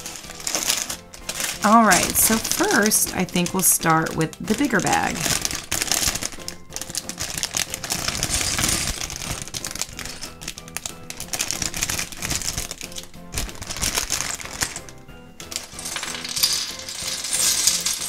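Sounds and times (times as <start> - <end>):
background music: 0.0 - 18.0
plastic bag crinkling: 0.0 - 18.0
plastic bricks clicking together: 0.0 - 18.0.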